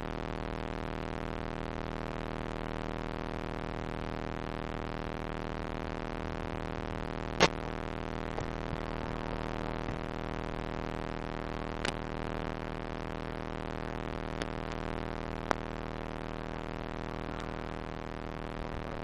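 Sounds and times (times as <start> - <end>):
steady buzzing hum: 0.0 - 19.0.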